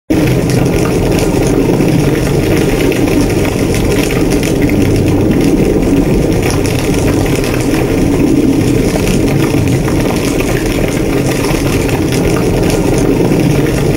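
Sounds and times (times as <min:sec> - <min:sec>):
fire crackling: 0:00.1 - 0:13.9
fire flames rumbling: 0:00.1 - 0:13.9.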